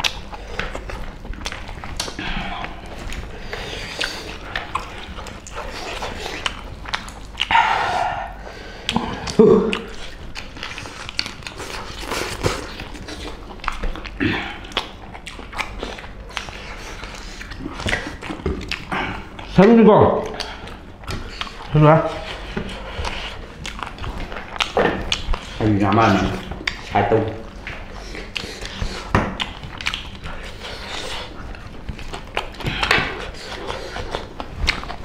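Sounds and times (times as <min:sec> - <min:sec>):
chewing and lip smacks: 0:00.0 - 0:35.0.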